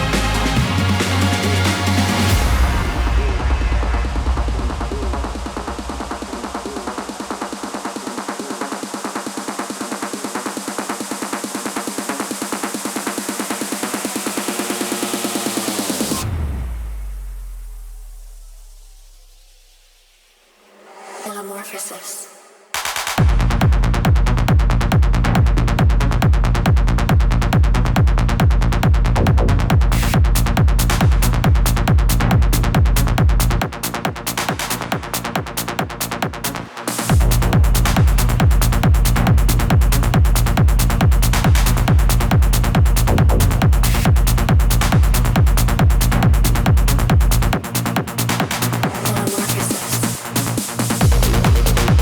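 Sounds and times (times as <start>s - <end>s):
kick drum and bass pulse: 0.0s - 20.2s, 23.1s - 52.0s.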